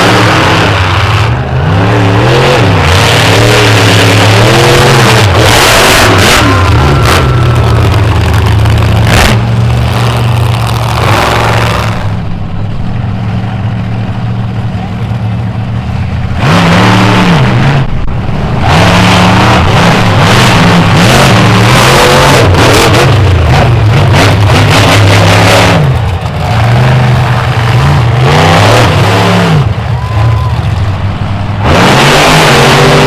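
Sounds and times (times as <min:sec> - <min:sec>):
monster truck engines revving: 0:00.0 - 0:33.0.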